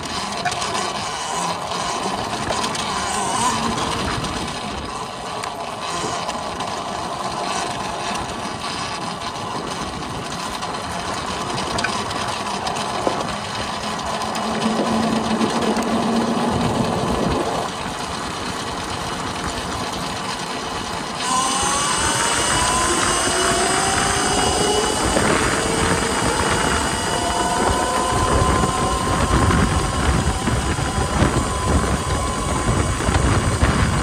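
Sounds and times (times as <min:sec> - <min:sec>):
electric motorcycle riding: 0:00.0 - 0:34.0
motor whine: 0:00.0 - 0:34.0.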